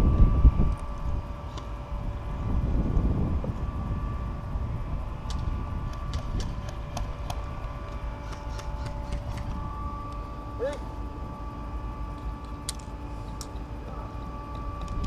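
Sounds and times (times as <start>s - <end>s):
electrical hum: 0.0s - 15.0s
low rumbling on microphone: 0.0s - 15.0s.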